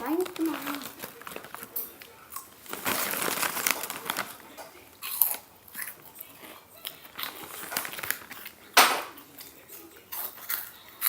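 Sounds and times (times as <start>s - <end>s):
snack packet crinkling: 0.0s - 11.0s
snack crunching: 0.1s - 11.0s.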